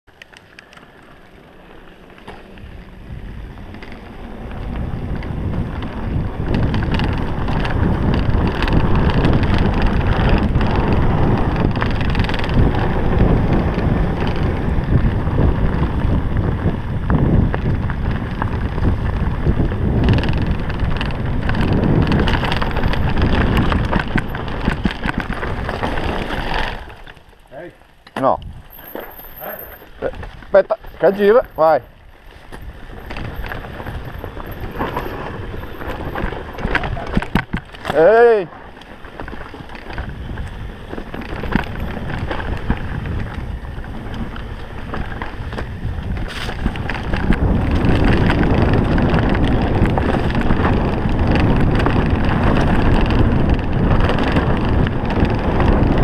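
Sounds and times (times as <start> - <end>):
bike rattling: 0.1 - 56.0
bike tyres rumbling over dirt: 0.1 - 56.0
wind buffeting microphone: 2.4 - 56.0.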